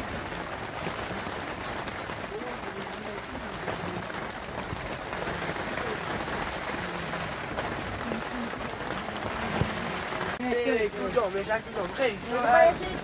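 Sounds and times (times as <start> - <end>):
faint voices talking: 0.0 - 13.0
rain falling: 0.0 - 13.0.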